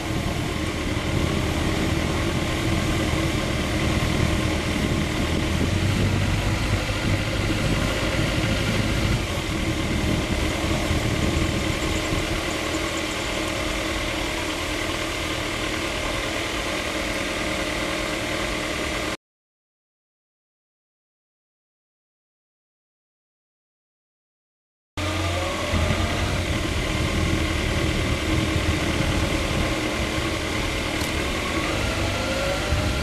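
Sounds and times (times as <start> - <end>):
motorcycle engine rumbling: 0.0 - 19.2, 25.0 - 33.0.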